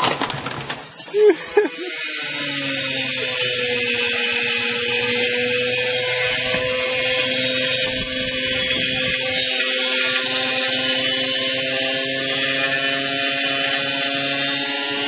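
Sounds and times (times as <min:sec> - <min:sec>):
washing machine motor whining: 0:00.0 - 0:15.0.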